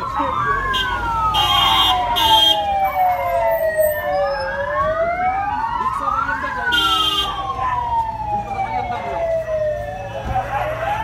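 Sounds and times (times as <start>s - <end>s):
sirens wailing: 0.0s - 11.0s.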